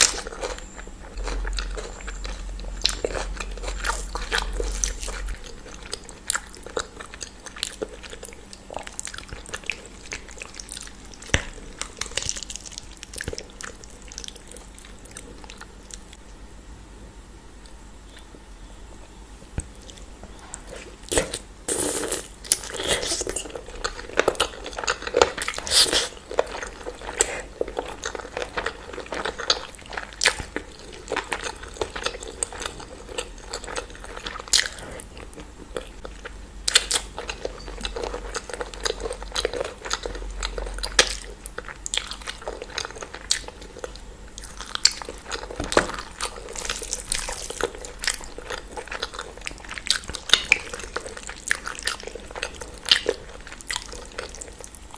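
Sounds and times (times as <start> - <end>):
person chewing and biting: 0.0 - 16.0, 19.8 - 54.8.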